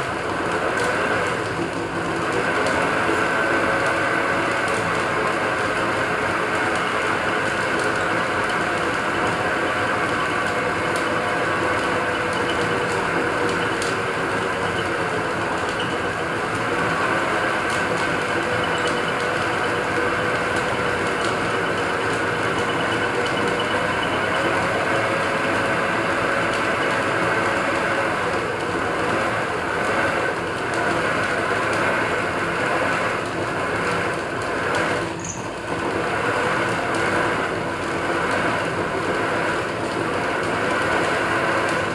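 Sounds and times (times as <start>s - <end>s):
metal lathe running: 2.5s - 41.9s.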